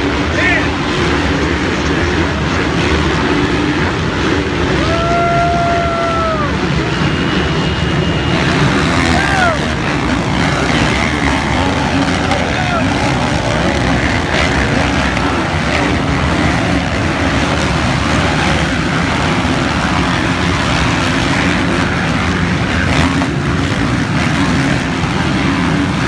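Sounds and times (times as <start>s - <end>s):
dirt bike engines running: 0.0s - 26.0s.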